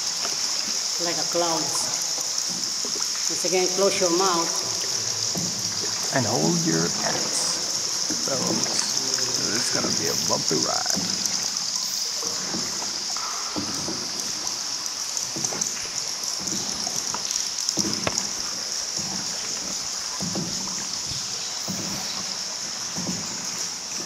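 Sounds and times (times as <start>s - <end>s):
paddle strokes in water: 0.0s - 24.0s
steady high-pitched hiss: 0.0s - 24.0s.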